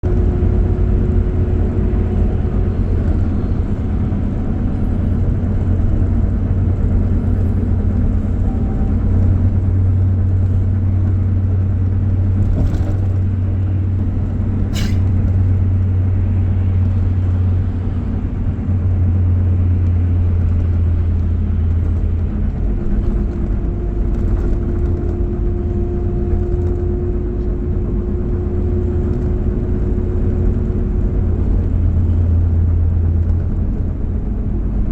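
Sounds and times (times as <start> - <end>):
low vehicle rumble: 0.0 - 34.9.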